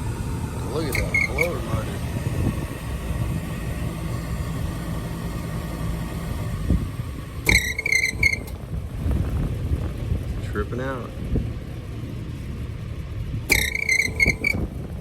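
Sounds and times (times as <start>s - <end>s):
hvac unit rumbling: 0.0s - 15.0s.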